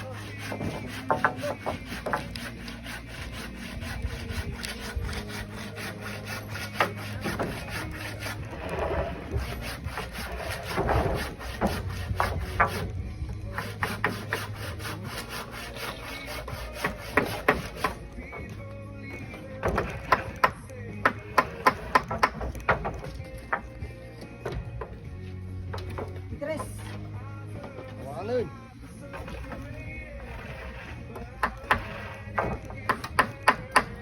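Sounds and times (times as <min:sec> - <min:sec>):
hand tool scraping: 0:00.0 - 0:34.0.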